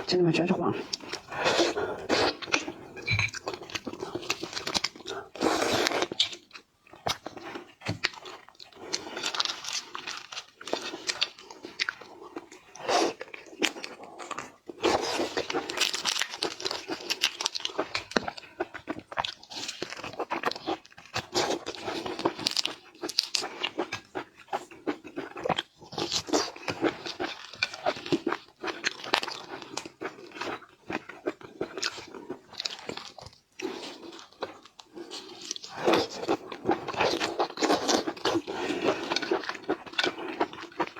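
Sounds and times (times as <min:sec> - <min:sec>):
crunching bites and chewing: 0:00.8 - 0:40.9.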